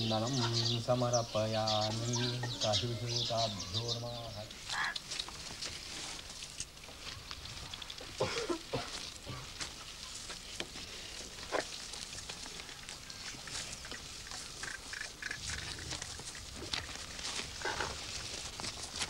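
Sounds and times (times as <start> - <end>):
hooves scuffing: 1.4 - 19.0.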